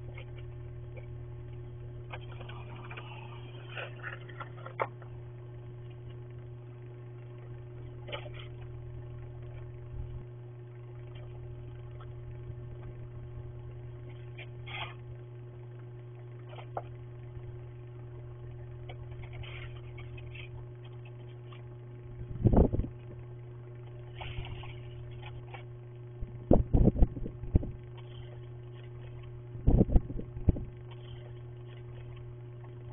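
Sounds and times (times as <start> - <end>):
low electrical hum: 0.0 - 32.9.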